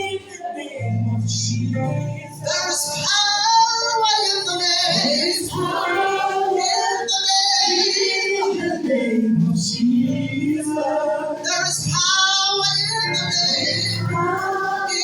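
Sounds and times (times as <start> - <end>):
musical accompaniment: 0.0 - 15.0
woman singing gospel song: 0.0 - 15.0.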